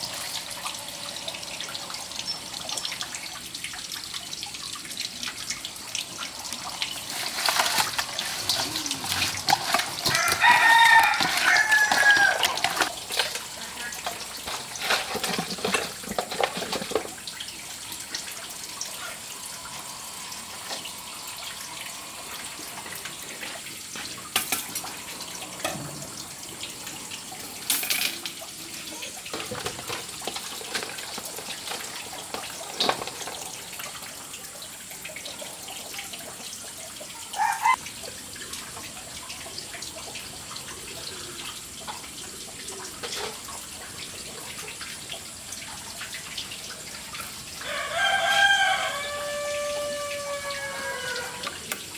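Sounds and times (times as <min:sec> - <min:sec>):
running water: 0:00.0 - 0:51.9.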